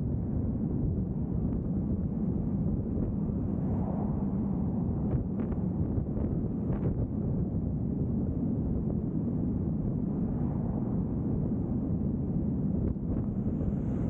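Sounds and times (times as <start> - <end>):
vehicle road and wind noise: 0.0 - 14.0.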